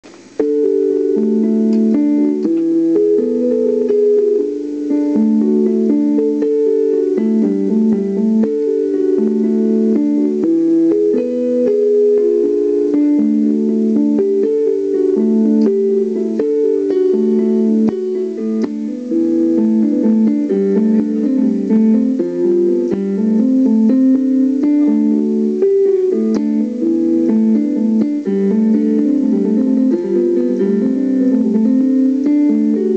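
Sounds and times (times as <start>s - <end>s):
keyboard: 0.0s - 32.9s
plucked guitar: 0.0s - 32.9s.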